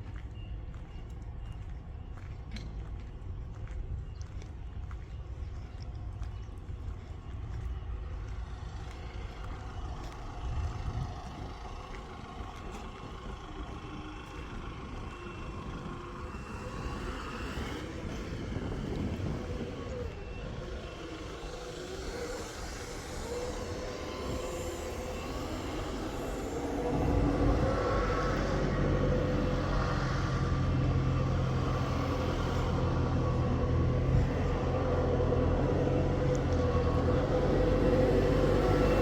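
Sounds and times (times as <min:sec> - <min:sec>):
faint wavering whining tones: 0:00.0 - 0:39.0
machine engine rumbling: 0:00.0 - 0:39.0.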